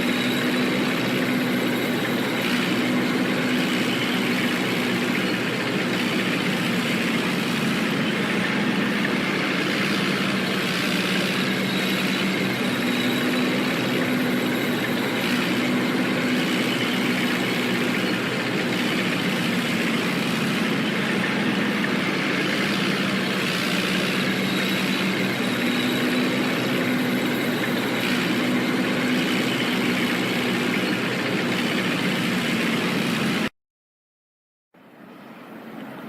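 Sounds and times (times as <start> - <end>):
tank engine humming: 0.0 - 33.5.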